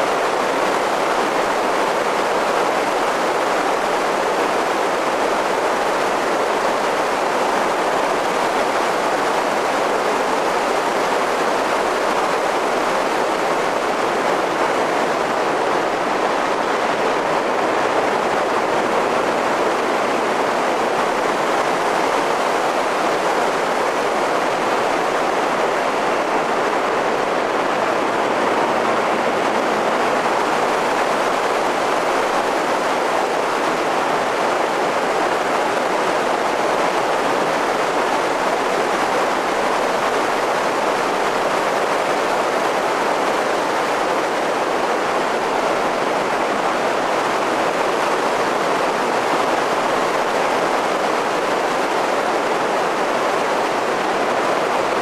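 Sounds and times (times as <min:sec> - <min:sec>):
wind and tyre rush: 0:00.0 - 0:55.0.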